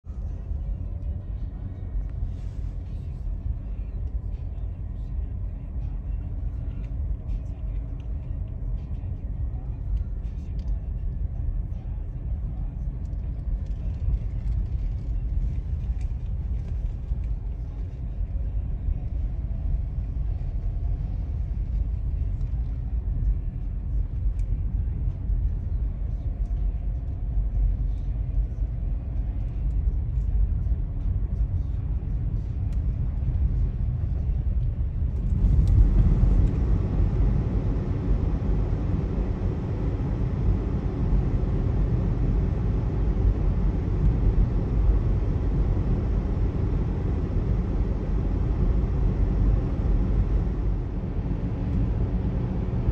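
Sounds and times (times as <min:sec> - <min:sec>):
car cabin road rumble: 0:00.0 - 0:52.9.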